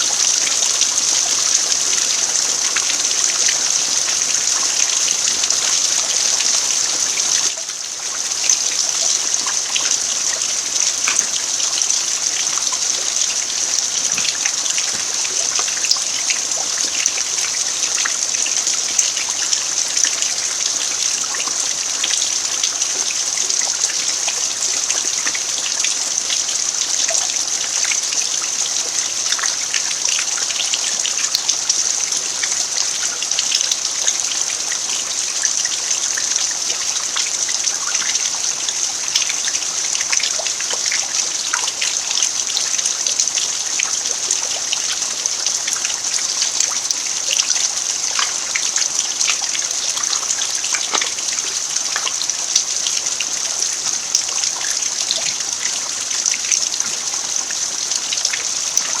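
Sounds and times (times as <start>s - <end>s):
rain falling on dirt: 0.0s - 59.0s.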